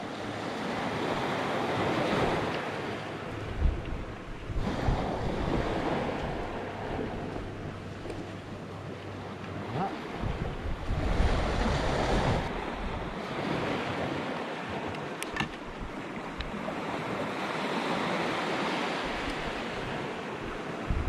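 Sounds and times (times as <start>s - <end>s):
sea waves washing on shore: 0.0s - 21.0s
wind buffeting microphone: 0.8s - 21.0s.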